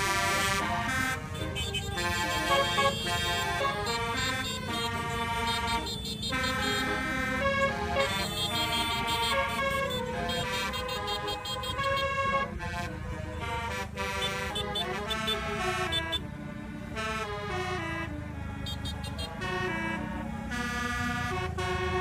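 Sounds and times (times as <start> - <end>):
multi-tone bus horn melody: 0.0 - 22.0.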